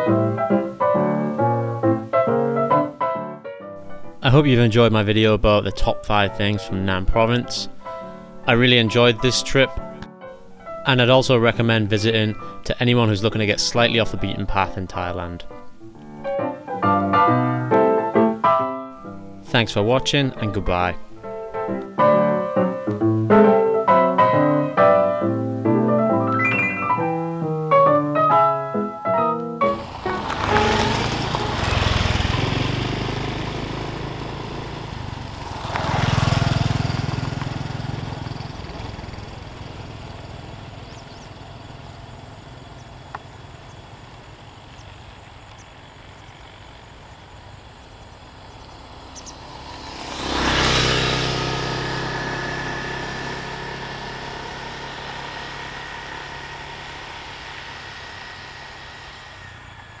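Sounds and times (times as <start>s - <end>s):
motor scooters passing: 6.1s - 10.0s, 11.6s - 60.0s.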